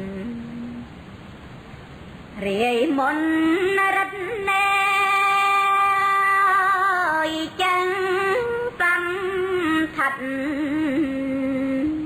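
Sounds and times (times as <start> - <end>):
woman chanting unaccompanied: 0.0 - 0.9, 2.4 - 12.0.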